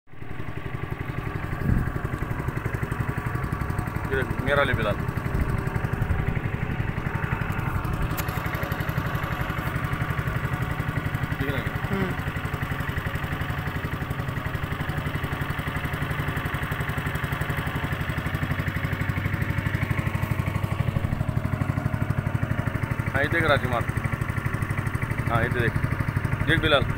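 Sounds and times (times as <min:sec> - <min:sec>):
boat engine running: 0:00.1 - 0:26.9.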